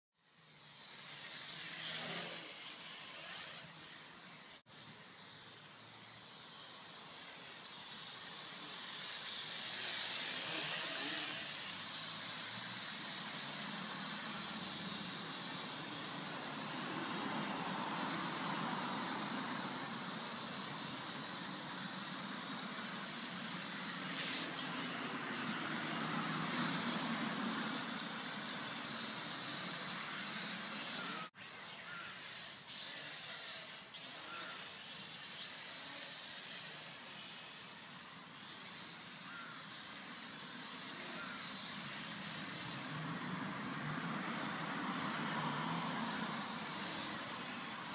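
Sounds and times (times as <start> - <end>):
quadcopter propellers whirring: 0.2 - 47.9.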